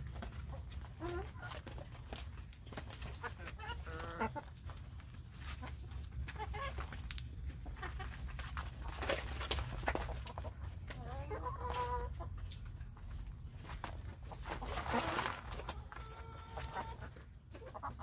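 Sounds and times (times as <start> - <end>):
hens clucking: 0.0 - 18.0
hens pecking taps: 0.0 - 18.0.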